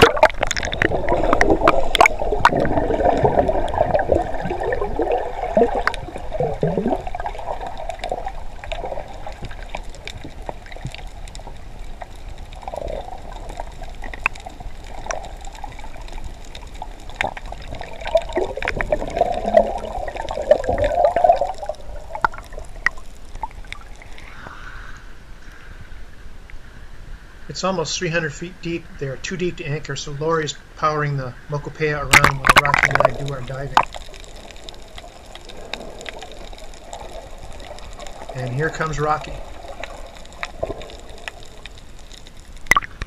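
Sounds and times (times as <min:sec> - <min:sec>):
underwater gurgling and bubbling: 0:00.0 - 0:24.5, 0:31.7 - 0:43.0.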